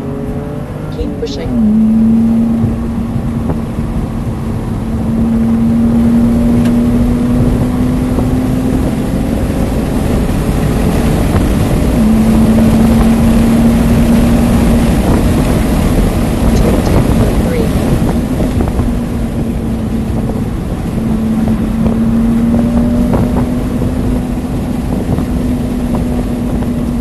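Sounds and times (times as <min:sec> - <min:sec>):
car engine accelerating: 0:00.0 - 0:27.0
wind and road noise: 0:00.0 - 0:27.0.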